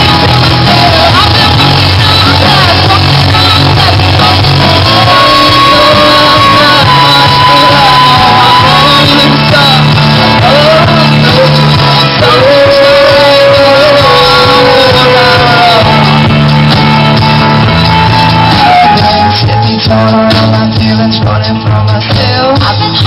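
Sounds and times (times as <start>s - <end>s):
drums: 0.0s - 23.0s
electric guitars: 0.0s - 23.0s
keyboard: 0.0s - 23.0s
woman singing lead: 0.0s - 23.0s.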